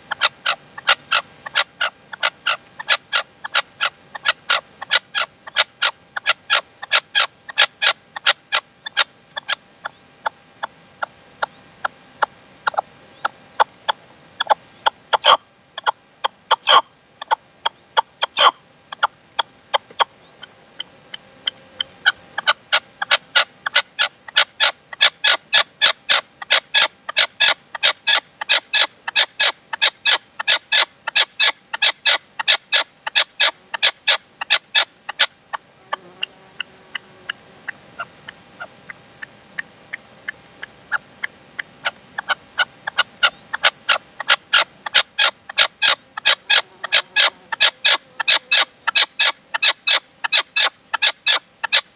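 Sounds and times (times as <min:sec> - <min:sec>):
partridge calling sharp notes: 0:00.0 - 0:35.3, 0:36.6 - 0:51.9.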